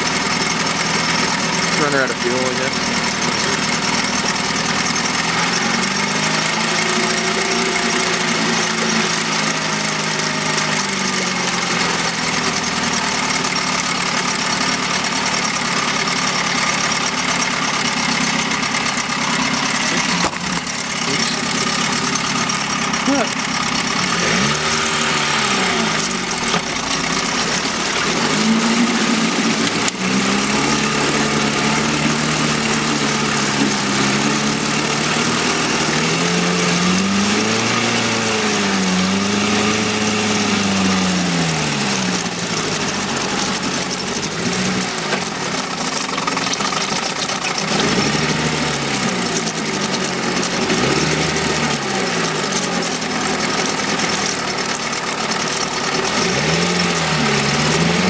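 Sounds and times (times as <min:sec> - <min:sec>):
outboard motor running unevenly: 0:00.0 - 0:58.0.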